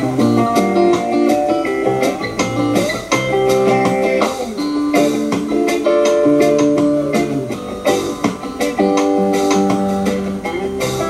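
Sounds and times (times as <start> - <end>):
guitar music from cassette: 0.0 - 11.0.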